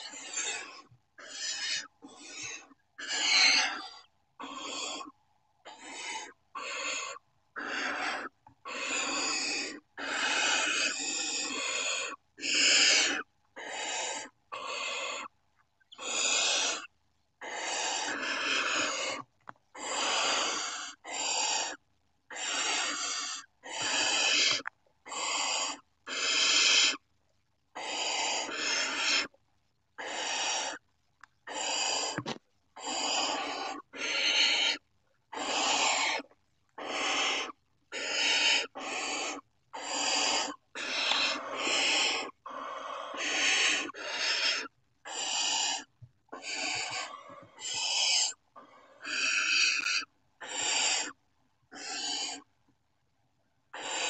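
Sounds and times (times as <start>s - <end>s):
owl chicks hissing begging calls: 0.0s - 27.0s, 27.8s - 29.3s, 30.0s - 30.8s, 31.4s - 52.5s, 53.7s - 54.0s.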